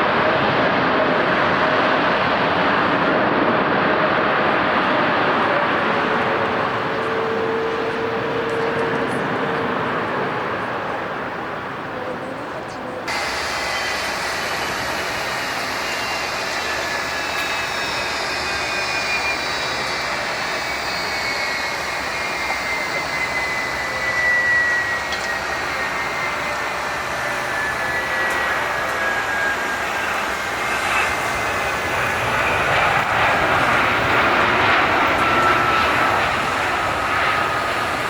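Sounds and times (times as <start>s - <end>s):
jet engine high whine: 0.0s - 38.0s
jet engines roaring: 0.0s - 38.0s.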